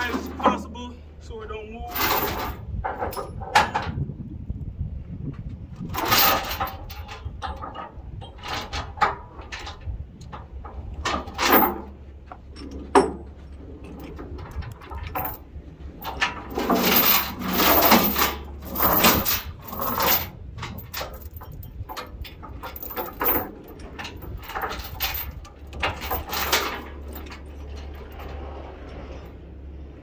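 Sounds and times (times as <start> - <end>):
metal chains rattling and clanking: 0.0 - 0.8, 1.8 - 4.0, 5.8 - 29.5.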